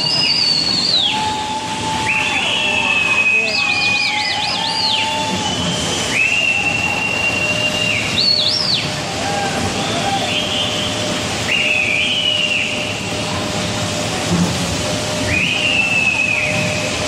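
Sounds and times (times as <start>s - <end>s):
shrill whistles: 0.0s - 8.9s, 9.8s - 13.0s, 15.2s - 16.9s
crowd voices: 0.0s - 17.0s.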